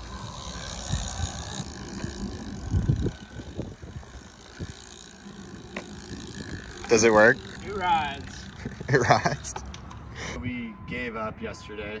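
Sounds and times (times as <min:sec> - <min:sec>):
bike tyres on asphalt: 0:00.0 - 0:10.3
wind buffeting microphone: 0:00.0 - 0:11.4.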